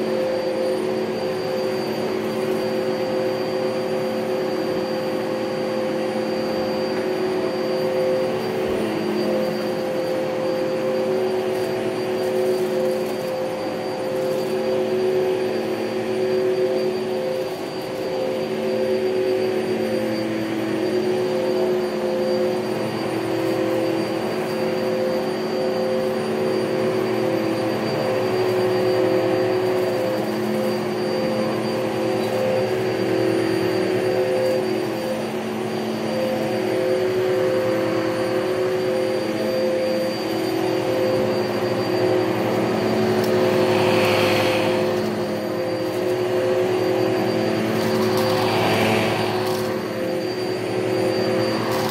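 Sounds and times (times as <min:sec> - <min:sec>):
vacuum cleaner motor whine: 0:00.0 - 0:51.9.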